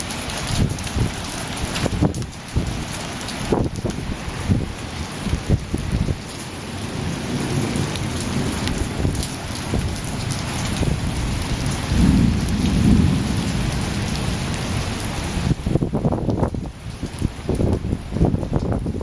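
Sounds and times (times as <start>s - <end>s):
steady rain falling: 0.0s - 19.0s
thunder rumbling: 0.0s - 19.0s.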